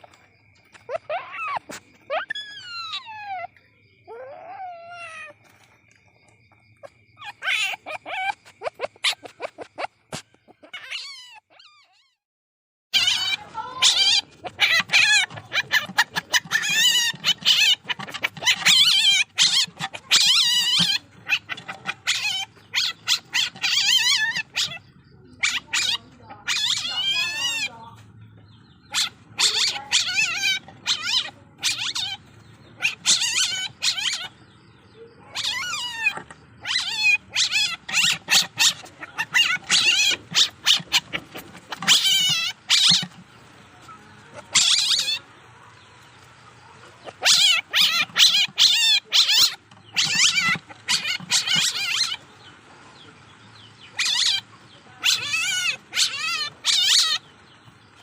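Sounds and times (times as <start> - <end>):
baby civet squealing: 0.0 - 5.6, 6.8 - 12.2, 12.9 - 28.0, 28.8 - 34.6, 35.2 - 45.3, 46.8 - 52.3, 53.9 - 58.0.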